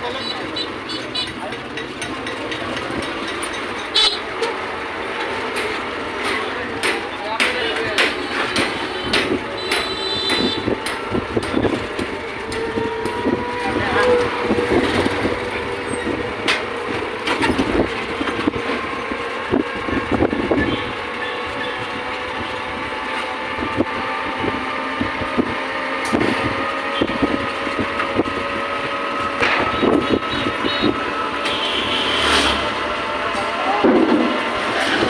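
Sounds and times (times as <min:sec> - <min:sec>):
vehicle running noise: 0:00.0 - 0:35.0.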